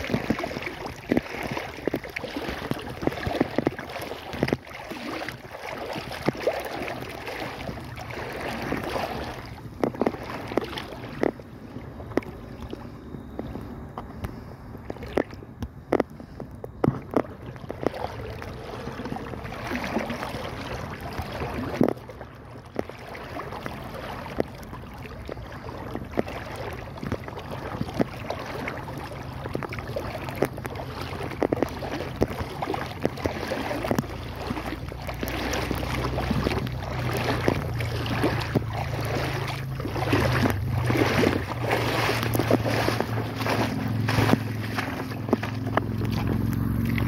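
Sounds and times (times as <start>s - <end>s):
low steady rumble: 0.0s - 47.0s
water sloshing from wading: 0.0s - 47.0s.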